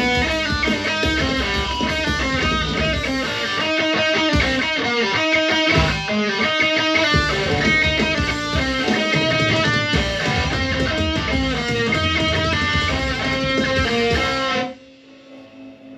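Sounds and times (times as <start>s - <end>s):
electric guitar single notes: 0.0s - 15.9s.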